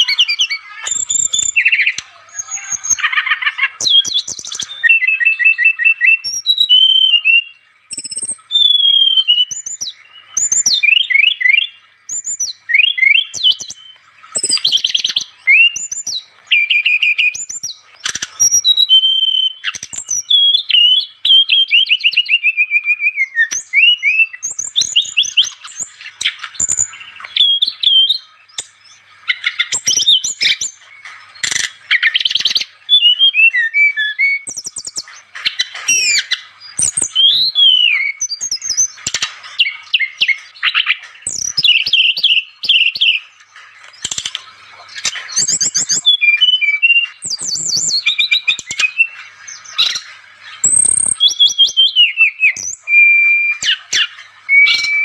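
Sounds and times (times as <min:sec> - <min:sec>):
flycatcher singing: 0:00.0 - 0:43.3, 0:43.9 - 0:55.0.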